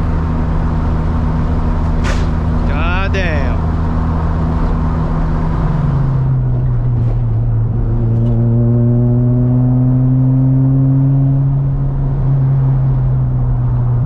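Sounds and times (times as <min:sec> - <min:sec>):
rotary engine accelerating: 0:00.0 - 0:14.0.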